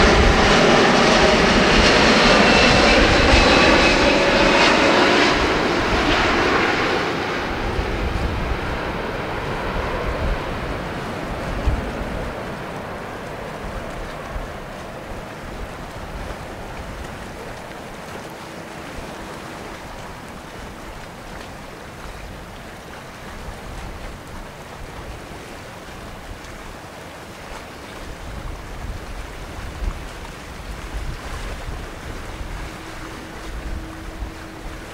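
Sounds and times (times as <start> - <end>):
distant jet engines rumbling: 0.0 - 34.9
waves washing along shore: 0.0 - 34.9
wind on microphone: 0.0 - 34.9.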